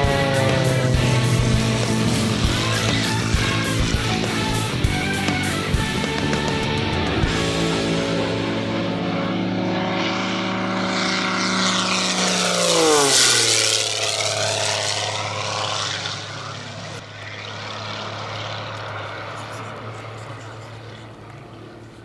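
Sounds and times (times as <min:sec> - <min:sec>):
propeller airplane flying past: 0:00.0 - 0:22.0.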